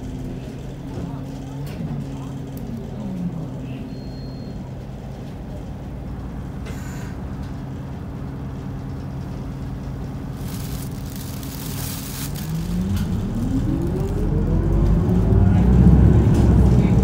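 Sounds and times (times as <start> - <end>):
bus diesel engine idling: 0.0 - 17.0.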